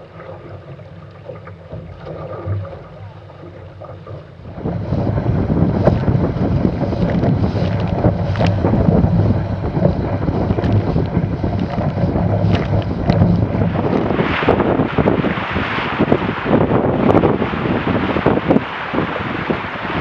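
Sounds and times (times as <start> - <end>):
water splashing along hull: 0.0 - 20.0
wind buffeting microphone: 2.0 - 20.0.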